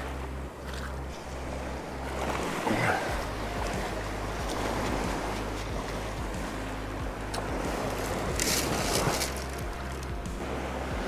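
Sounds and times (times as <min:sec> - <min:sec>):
surf washing over sand: 0:00.0 - 0:11.0.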